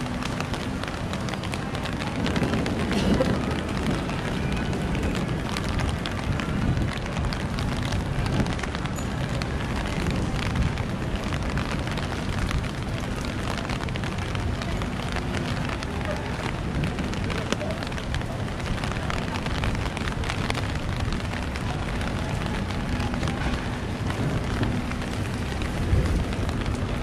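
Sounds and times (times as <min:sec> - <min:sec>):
low street rumble: 0:00.0 - 0:27.0
rain on wet paving: 0:00.0 - 0:27.0.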